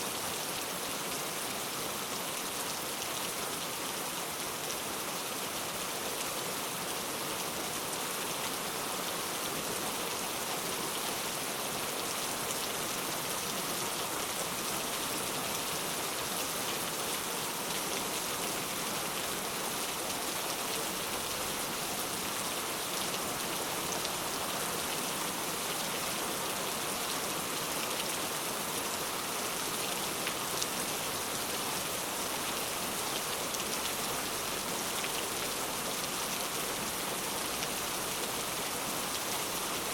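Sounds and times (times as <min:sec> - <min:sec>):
heavy rain falling: 0:00.4 - 0:39.9.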